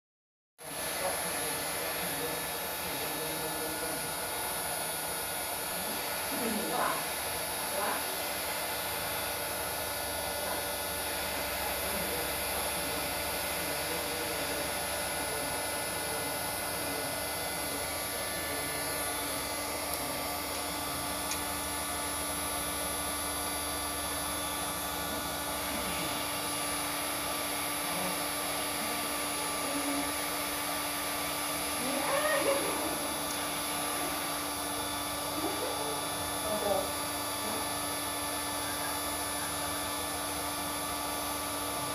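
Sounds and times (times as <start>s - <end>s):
heat gun blowing air: 0.6s - 41.9s.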